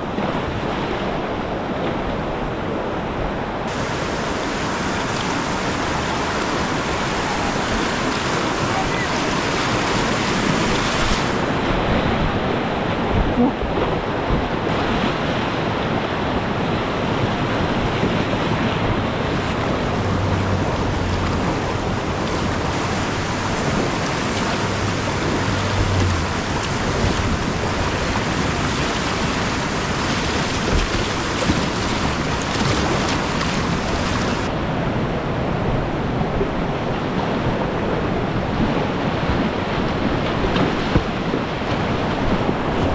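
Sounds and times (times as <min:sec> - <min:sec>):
whitewater rapids rushing: 0:00.0 - 0:42.9.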